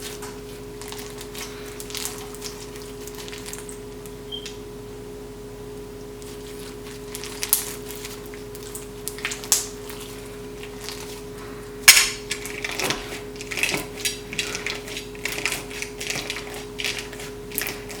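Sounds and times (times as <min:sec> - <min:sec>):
crunchy slime crackling: 0:00.0 - 0:04.3, 0:06.0 - 0:18.0.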